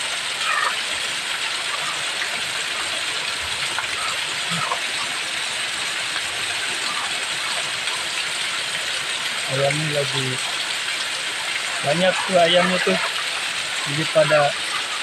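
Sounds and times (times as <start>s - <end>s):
heavy rain falling: 0.0s - 15.0s
runoff water gushing: 0.0s - 15.0s.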